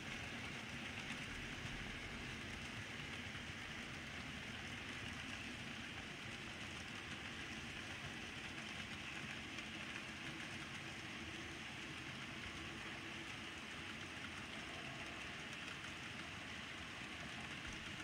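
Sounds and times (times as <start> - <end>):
model train whirring on rails: 0.0 - 18.0.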